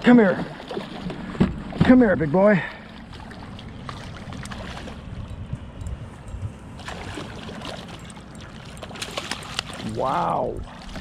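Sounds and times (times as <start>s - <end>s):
steady low rumble: 0.0s - 11.0s
water splashing and sloshing: 0.0s - 11.0s.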